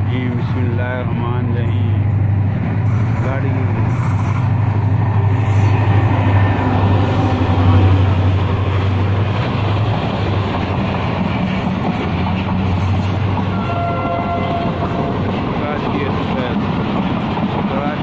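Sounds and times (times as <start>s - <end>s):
diesel locomotive engine drone: 0.0s - 18.0s
train wheels rolling on rails: 0.0s - 18.0s.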